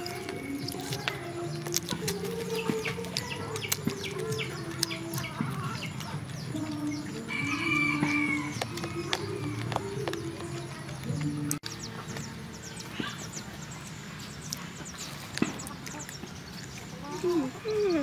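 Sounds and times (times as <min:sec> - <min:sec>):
high chirps and clucking: 0:00.0 - 0:18.0.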